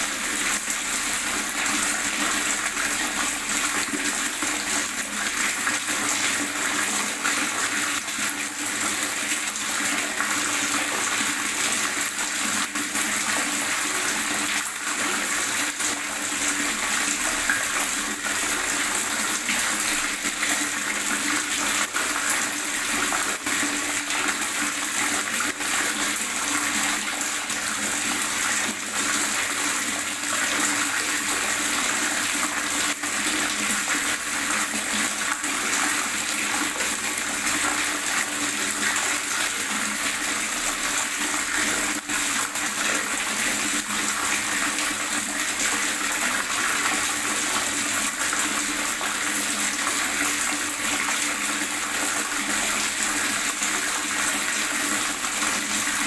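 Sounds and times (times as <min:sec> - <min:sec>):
water gurgling: 0:00.0 - 0:56.0.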